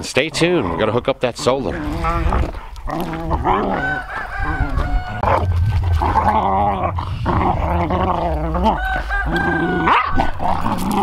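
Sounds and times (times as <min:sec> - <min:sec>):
dogs growling: 0:00.2 - 0:11.0.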